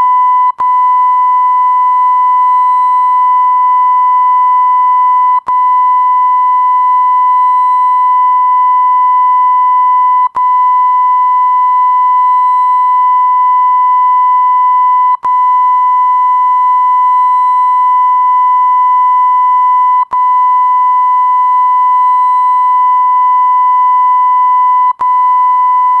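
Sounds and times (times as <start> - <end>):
censor bleep tone: 0.0 - 26.0.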